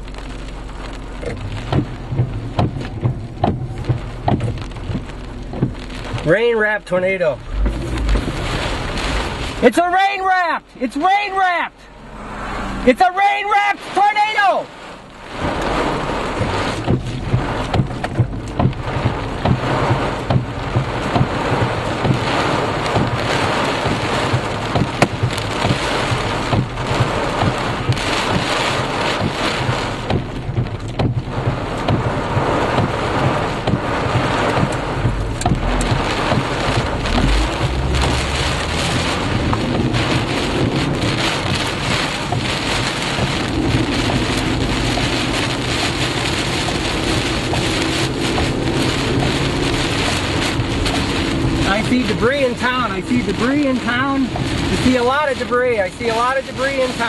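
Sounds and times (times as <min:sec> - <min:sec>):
engine and road drone: 0:00.0 - 0:14.0, 0:14.6 - 0:57.0
heavy rain pounding car: 0:00.0 - 0:57.0.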